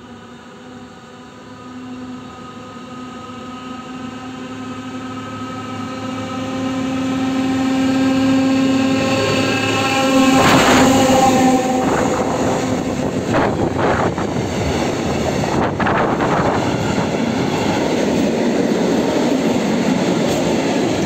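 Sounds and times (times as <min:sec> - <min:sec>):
diesel locomotive engine drone: 0:00.0 - 0:21.0
train rushing past: 0:00.1 - 0:21.0.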